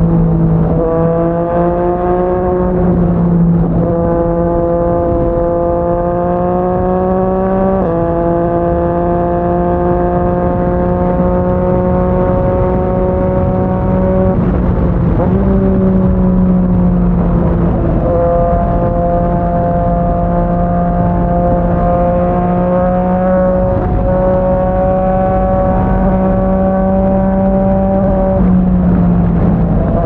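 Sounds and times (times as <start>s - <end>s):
motorcycle engine revving through gears: 0.0s - 30.0s.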